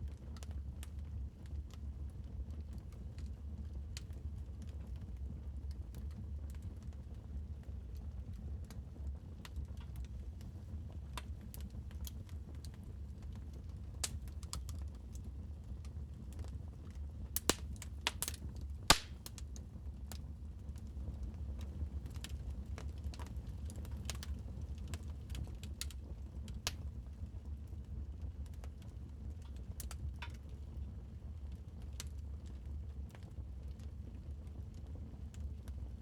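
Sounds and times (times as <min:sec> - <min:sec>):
wood fire crackling: 0:05.7 - 0:35.8.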